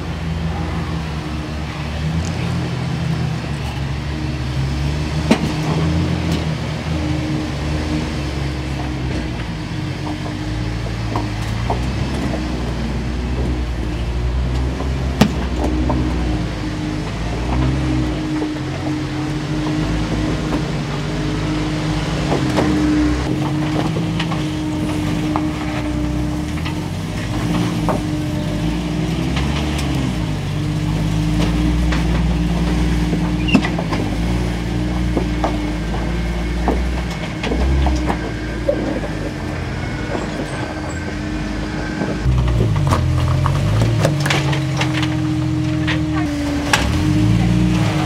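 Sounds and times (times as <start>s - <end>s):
off-road engines revving: 0.0s - 48.0s.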